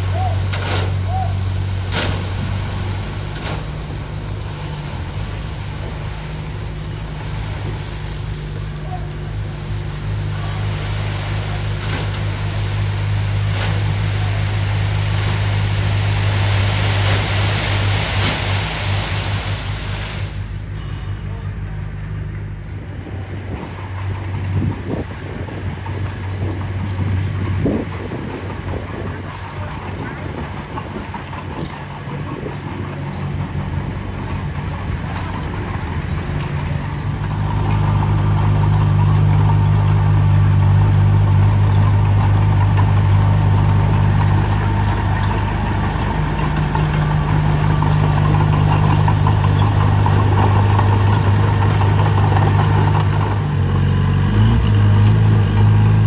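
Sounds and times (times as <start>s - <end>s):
clanking and scraping in gravel: 0.0s - 56.0s
heavy diesel engine humming: 0.0s - 56.0s.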